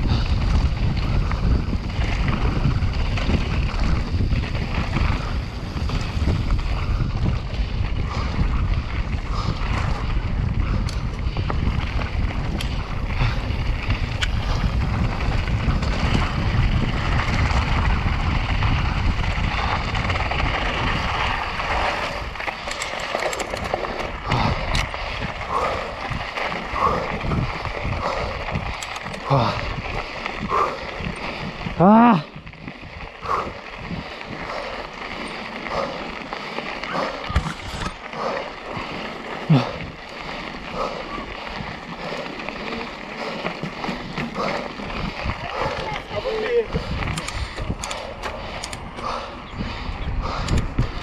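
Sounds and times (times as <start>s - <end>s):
bike clicking and rattling: 0.0s - 51.0s
wind rushing over microphone: 0.0s - 51.0s.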